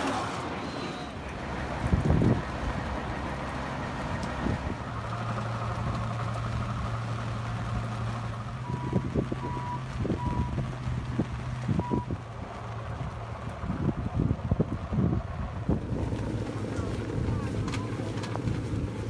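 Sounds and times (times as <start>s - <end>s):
farm vehicle engine running: 0.0s - 19.0s.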